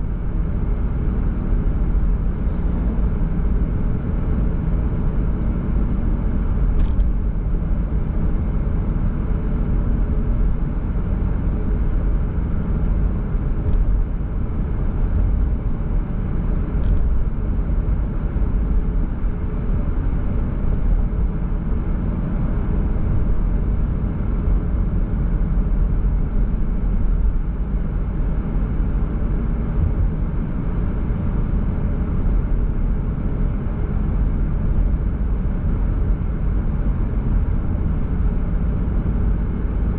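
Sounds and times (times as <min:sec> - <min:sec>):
car road noise rumble: 0:00.0 - 0:39.9
wind: 0:00.0 - 0:39.9.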